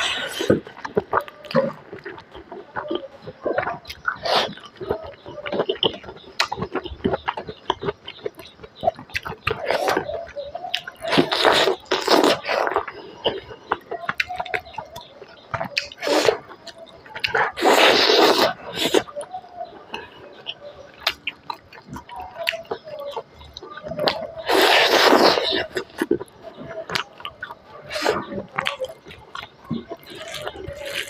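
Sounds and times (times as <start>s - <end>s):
wet chewing and lip smacking: 0.0s - 31.0s.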